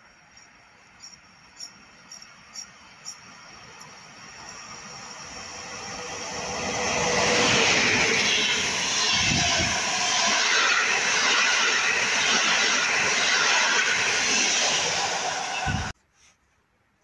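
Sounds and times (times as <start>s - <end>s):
train wheels rushing on rails: 0.0s - 15.9s.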